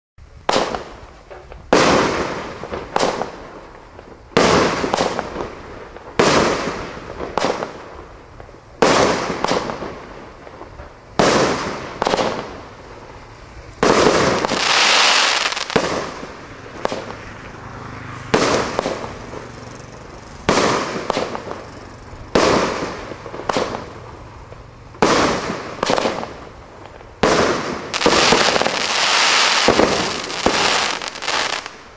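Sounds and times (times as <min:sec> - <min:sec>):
firework hissing: 0:00.3 - 0:31.9.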